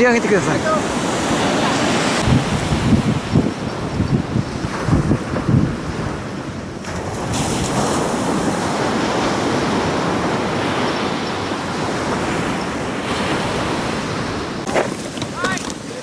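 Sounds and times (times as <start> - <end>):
surf breaking on beach: 0.0 - 16.0
wind on microphone: 0.0 - 16.0.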